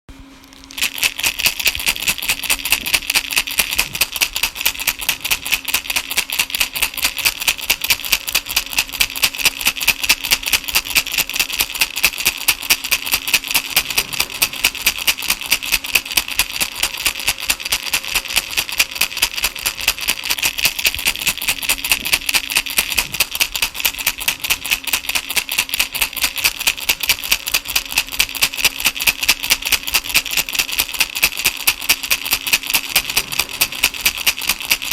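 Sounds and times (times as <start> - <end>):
baby rattle shaken: 0.6 - 34.9.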